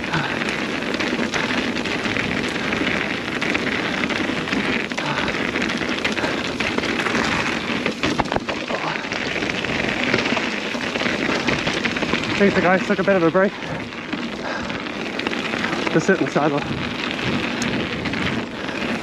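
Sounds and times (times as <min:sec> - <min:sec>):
bike rattles: 0:00.0 - 0:19.0
bike tyres crunching on trail: 0:00.0 - 0:19.0.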